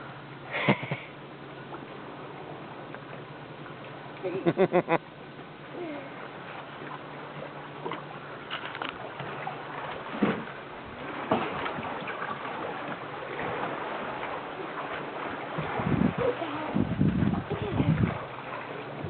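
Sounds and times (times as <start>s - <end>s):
lake water lapping and splashing: 0.0s - 19.0s.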